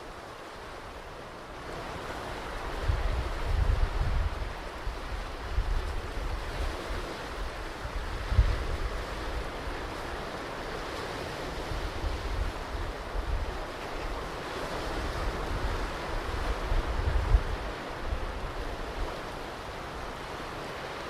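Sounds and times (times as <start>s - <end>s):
ocean surf on a beach: 0.0s - 21.0s
wind rumbling on microphone: 1.8s - 21.0s.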